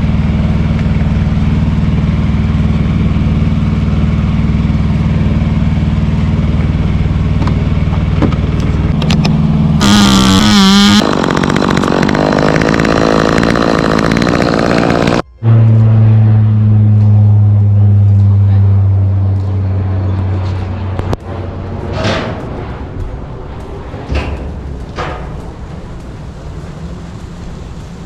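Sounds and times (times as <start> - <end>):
higher engine sound wavering pitch: 0.0 - 23.8
engine running steadily: 0.0 - 28.0.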